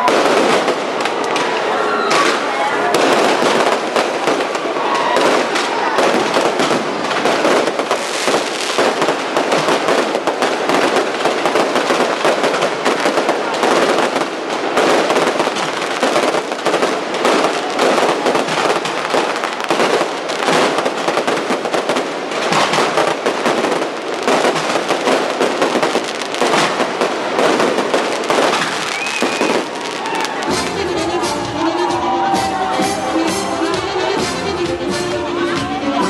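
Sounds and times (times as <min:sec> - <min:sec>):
fireworks crackling and banging: 0:00.0 - 0:36.0.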